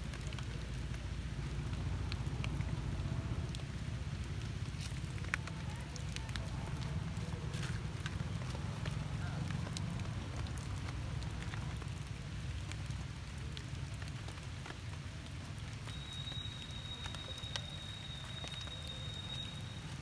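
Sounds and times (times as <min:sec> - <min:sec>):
light rain pattering: 0:00.0 - 0:20.0.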